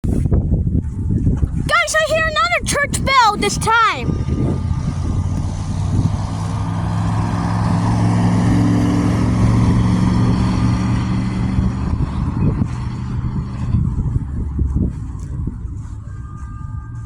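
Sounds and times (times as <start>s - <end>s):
vehicle engine humming: 1.7s - 17.0s.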